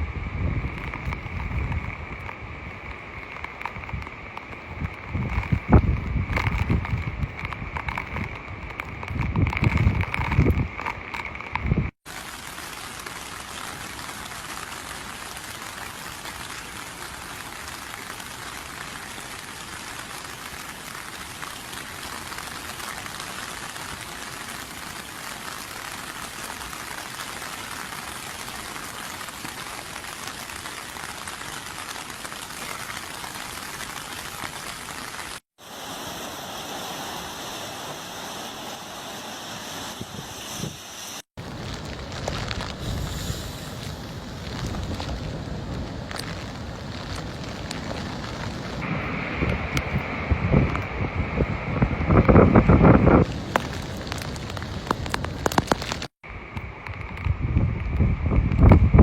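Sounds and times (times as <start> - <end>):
heavy rain hissing: 0.0 - 57.2.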